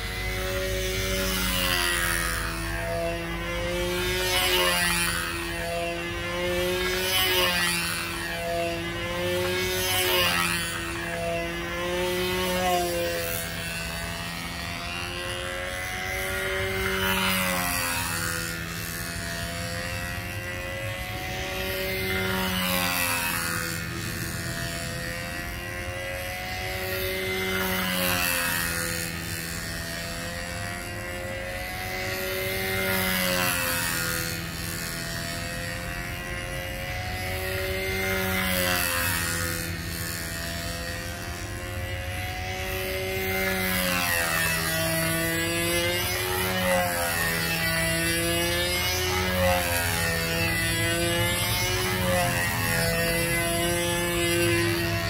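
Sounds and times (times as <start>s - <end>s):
model airplane engine buzzing: 0.0s - 55.0s.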